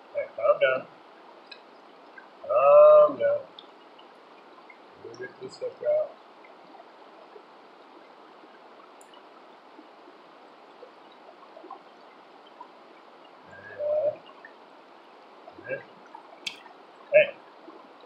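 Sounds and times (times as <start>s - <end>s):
creek water running over rocks: 0.0s - 18.0s.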